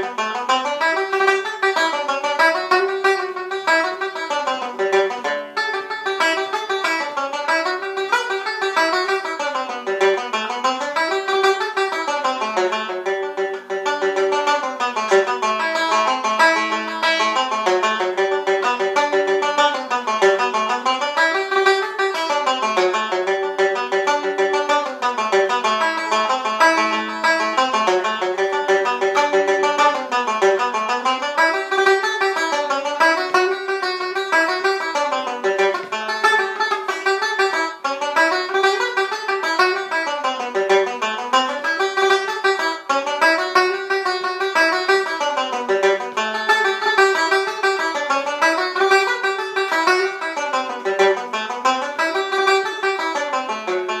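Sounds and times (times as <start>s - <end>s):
banjo playing fast reel: 0.0s - 54.0s.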